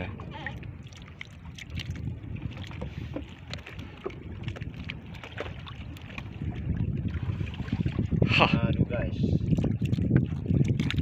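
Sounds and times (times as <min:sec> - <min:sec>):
sea noise: 0:00.0 - 0:11.0
wind on microphone: 0:00.0 - 0:11.0.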